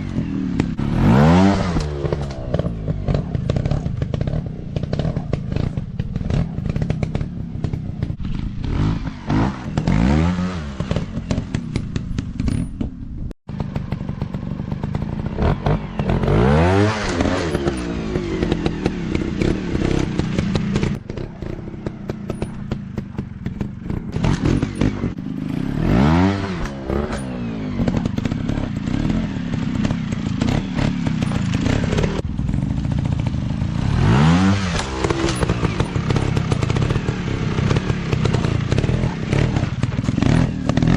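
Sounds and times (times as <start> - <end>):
dirt bike engine revving: 0.0 - 12.7, 13.5 - 40.9
clatter: 0.0 - 40.9.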